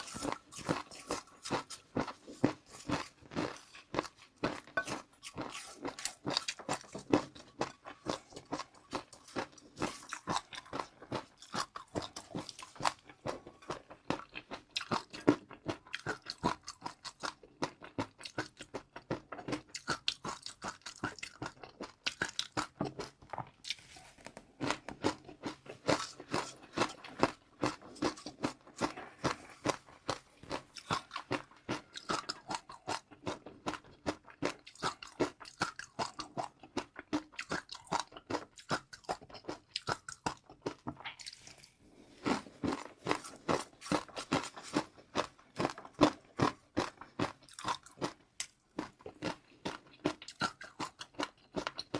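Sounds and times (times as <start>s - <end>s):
chewing crunchy food: 0.0s - 51.9s.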